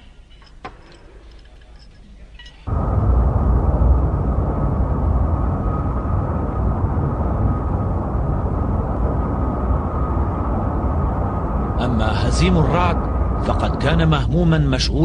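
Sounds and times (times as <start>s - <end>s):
deep engine-like rumble: 2.7s - 15.0s.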